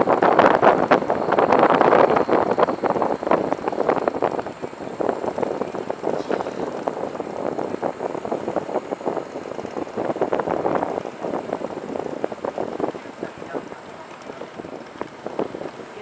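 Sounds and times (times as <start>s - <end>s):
storm wind gusting: 0.0s - 16.0s.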